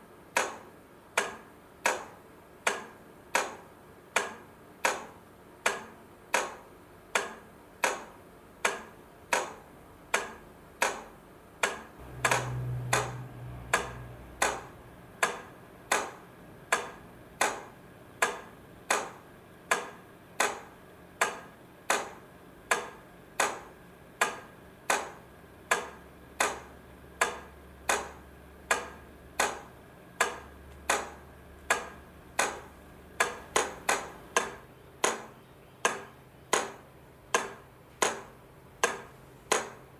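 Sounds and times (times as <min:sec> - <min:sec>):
flasher unit clicking: 0:04.2 - 0:39.9.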